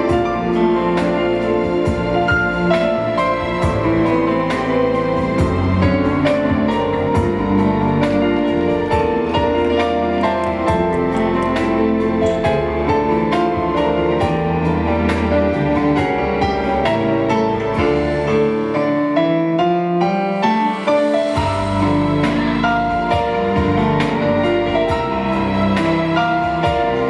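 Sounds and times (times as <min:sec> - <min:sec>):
instrumental music with steady beat: 0:00.0 - 0:27.0.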